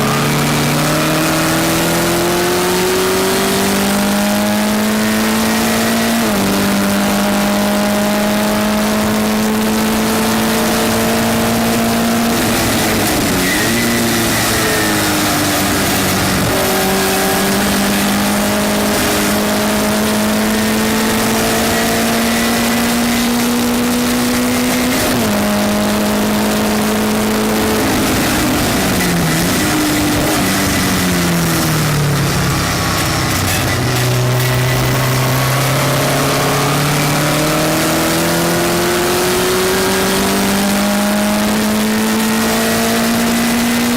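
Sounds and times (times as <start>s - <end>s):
race car engine at full throttle: 0.0s - 43.9s.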